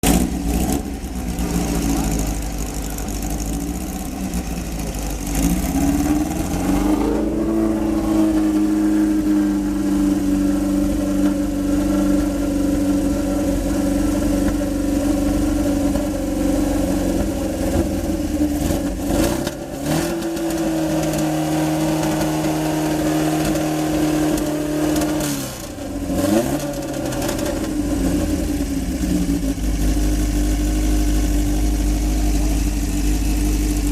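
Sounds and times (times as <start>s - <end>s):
racing engine revving: 0.0s - 32.6s.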